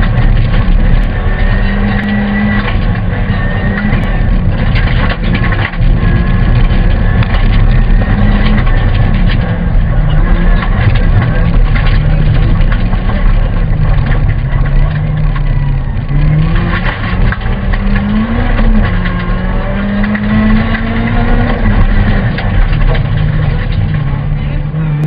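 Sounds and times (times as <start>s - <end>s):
car engine revving: 0.0s - 25.0s
road and tyre noise: 0.0s - 25.0s.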